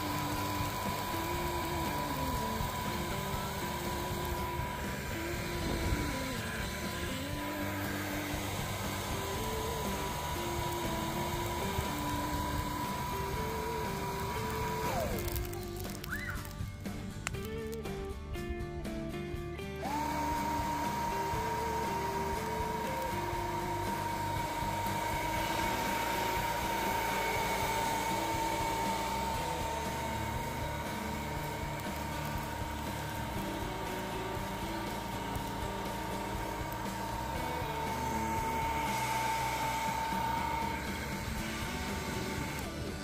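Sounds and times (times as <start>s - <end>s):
background music: 0.0s - 43.0s
blower motor whine and airflow: 0.0s - 43.0s.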